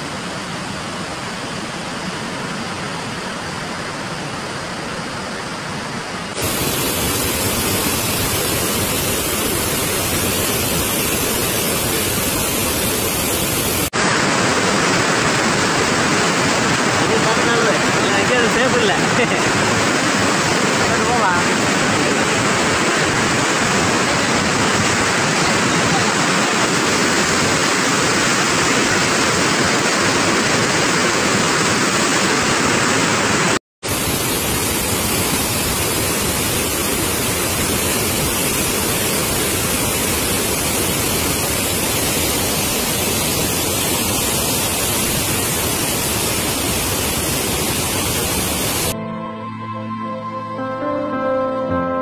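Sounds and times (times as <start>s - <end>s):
floodwater rushing over weir: 0.1s - 49.0s.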